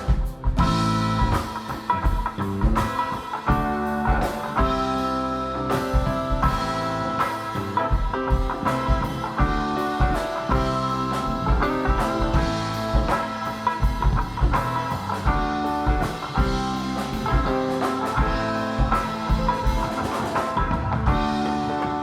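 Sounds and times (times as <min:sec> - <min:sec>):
drum kit playing: 0:00.0 - 0:22.0
electric guitar: 0:00.0 - 0:22.0.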